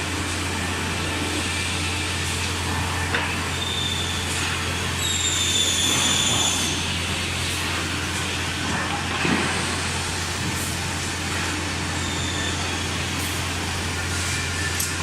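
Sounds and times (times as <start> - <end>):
high spindle whine: 0.0 - 15.0
machine mechanical hum: 0.0 - 15.0.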